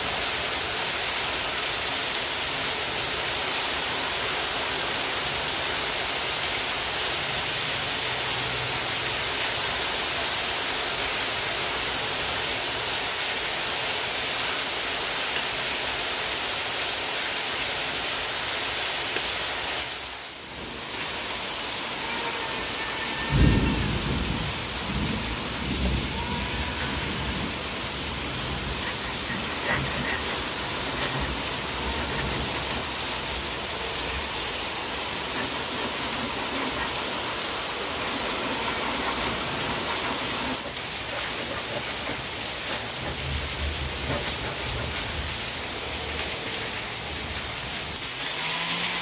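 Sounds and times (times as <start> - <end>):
steady hiss like rain: 0.0 - 49.0.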